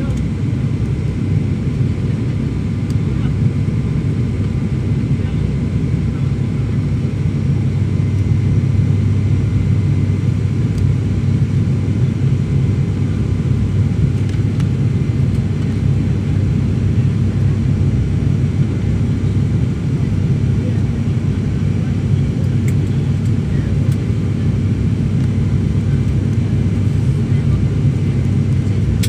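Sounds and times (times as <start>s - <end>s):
turboprop engines droning: 0.0s - 29.0s.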